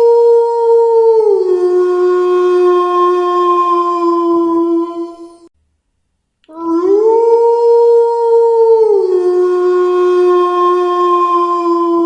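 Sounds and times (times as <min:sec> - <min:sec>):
wolf howling: 0:00.0 - 0:05.5, 0:06.5 - 0:12.0.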